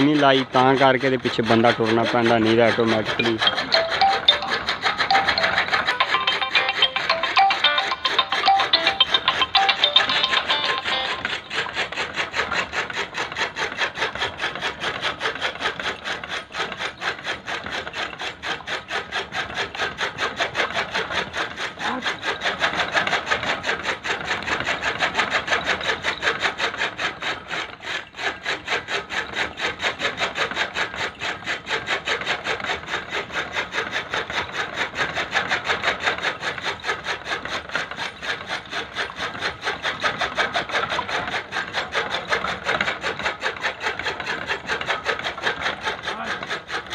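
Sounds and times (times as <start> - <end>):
chaff cutter chopping fodder: 0.0 - 46.9.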